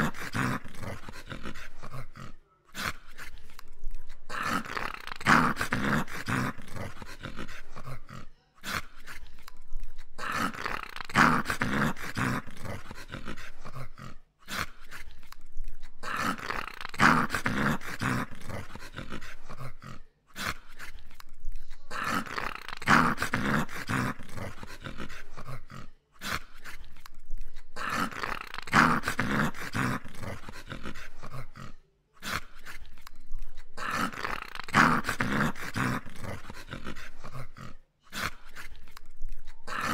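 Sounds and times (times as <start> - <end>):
dog low vocal sound: 0.0 - 39.9.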